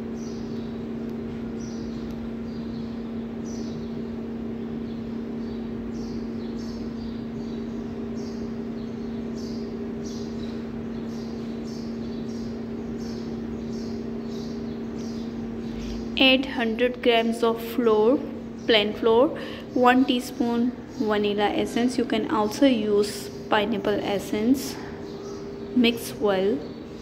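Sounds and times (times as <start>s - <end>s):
low electrical hum: 0.0s - 27.0s
small bird chirping: 0.0s - 27.0s.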